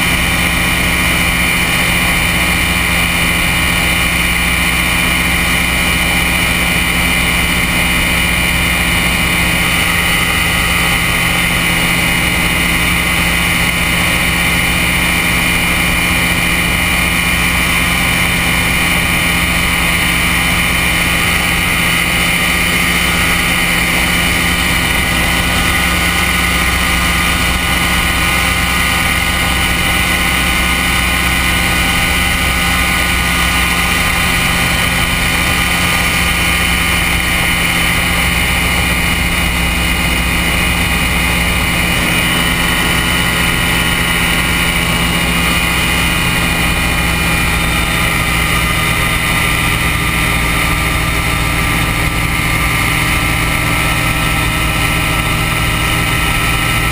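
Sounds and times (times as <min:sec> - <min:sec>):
aircraft engine and propeller: 0:00.0 - 0:56.9.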